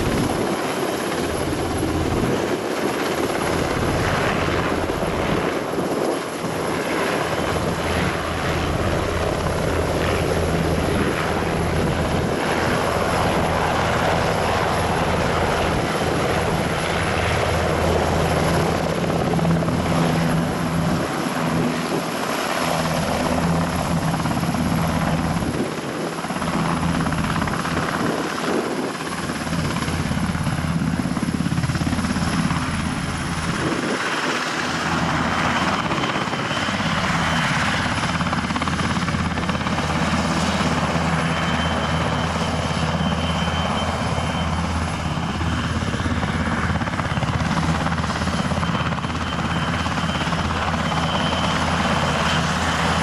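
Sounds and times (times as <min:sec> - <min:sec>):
helicopter rotor beat: 0:00.0 - 0:53.0.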